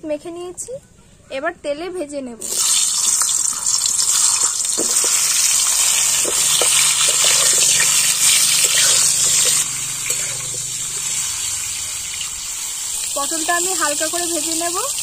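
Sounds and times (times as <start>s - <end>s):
vegetables sizzling in oil: 2.4s - 15.0s.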